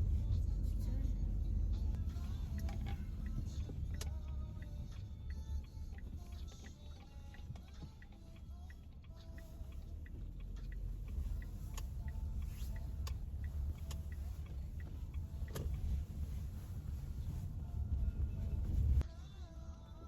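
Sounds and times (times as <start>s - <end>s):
turn signal ticking: 0.0s - 19.1s
car cabin rumble while driving: 0.0s - 20.0s.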